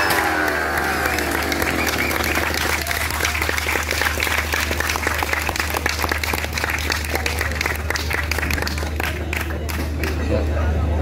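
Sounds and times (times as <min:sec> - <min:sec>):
crowd applauding: 0:00.0 - 0:10.5.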